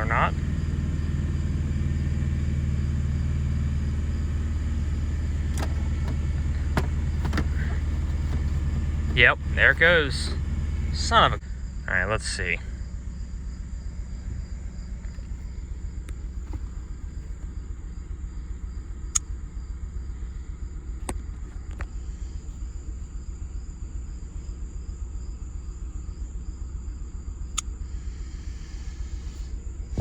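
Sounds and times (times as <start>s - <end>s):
insects chirping: 0.0s - 30.0s
misfiring pickup engine idling: 0.0s - 30.0s.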